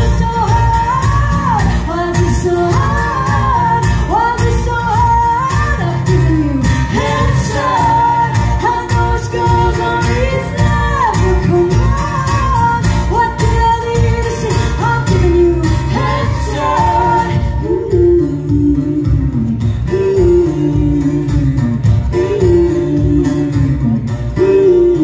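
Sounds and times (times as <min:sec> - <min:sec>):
woman singing: 0:00.0 - 0:23.8
electric guitars: 0:00.0 - 0:25.0
strummed acoustic guitar: 0:00.0 - 0:25.0.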